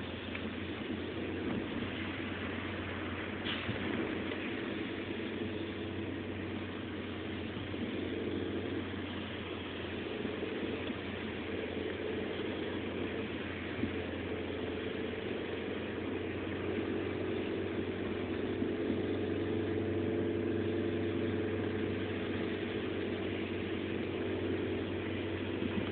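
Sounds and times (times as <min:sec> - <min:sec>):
car engine running: 0:00.0 - 0:25.9
road noise: 0:00.0 - 0:25.9.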